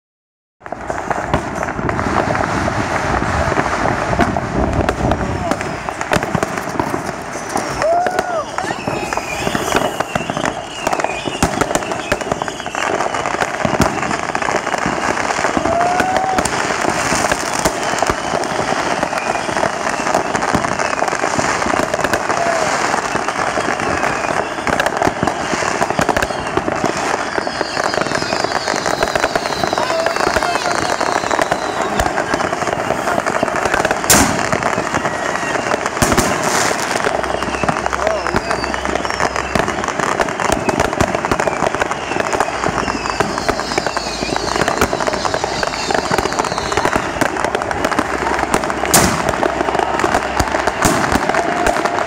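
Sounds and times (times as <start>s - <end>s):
firework whistles: 0.6s - 52.0s
fireworks crackling and banging: 0.6s - 52.0s.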